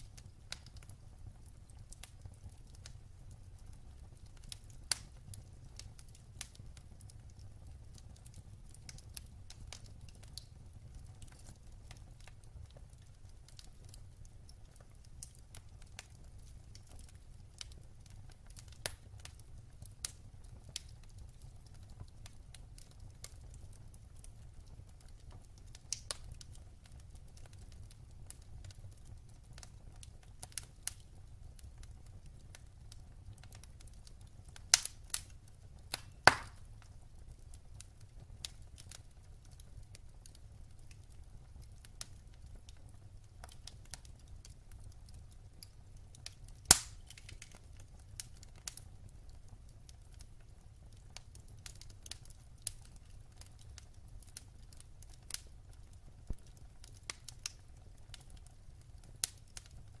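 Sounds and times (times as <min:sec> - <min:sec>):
fire rumbling: 0:00.0 - 1:00.0
logs crackling and popping: 0:00.0 - 1:00.0.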